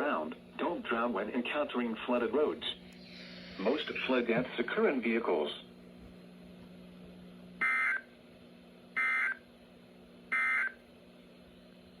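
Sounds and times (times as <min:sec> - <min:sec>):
faint low steady hum: 0:00.0 - 0:12.0.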